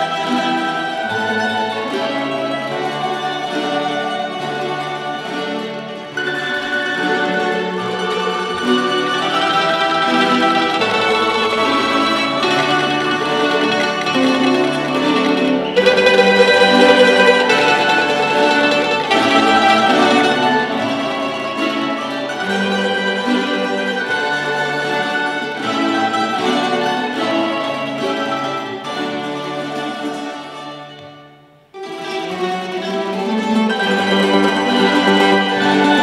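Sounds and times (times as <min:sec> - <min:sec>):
tambura ensemble playing folk tune: 0:00.0 - 0:36.0.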